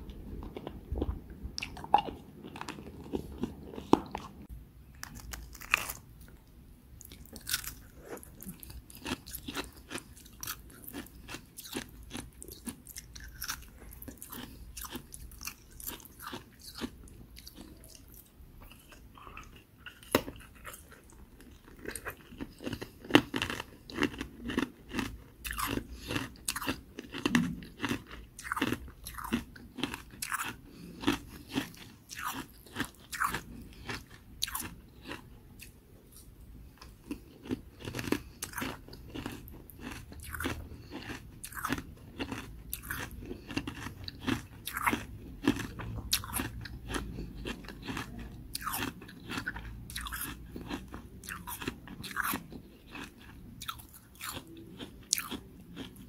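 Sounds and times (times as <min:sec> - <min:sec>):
ice crunching being chewed: 0:00.0 - 0:06.4, 0:07.0 - 0:56.0.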